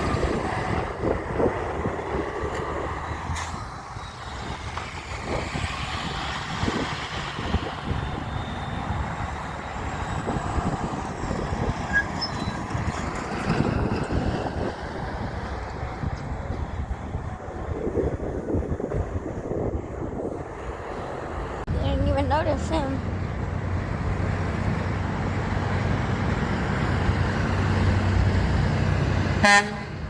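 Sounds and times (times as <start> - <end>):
heavy truck passing: 0.0 - 30.0.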